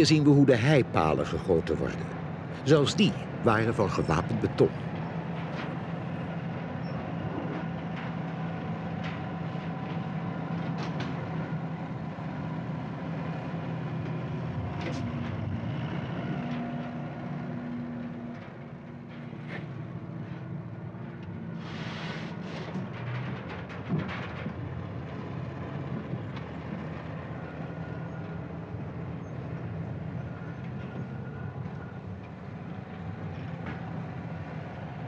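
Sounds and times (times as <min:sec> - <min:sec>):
machinery rumbling: 0:00.0 - 0:35.0.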